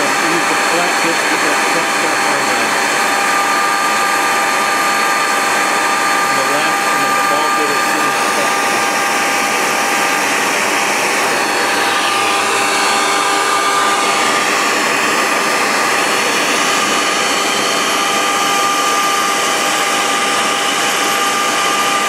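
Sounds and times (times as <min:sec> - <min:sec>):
router spindle motor whine: 0:00.0 - 0:22.0.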